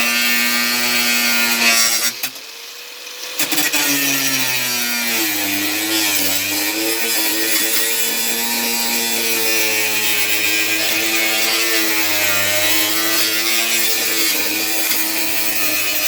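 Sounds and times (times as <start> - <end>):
electric tool cutting sheet metal: 0.0 - 16.0.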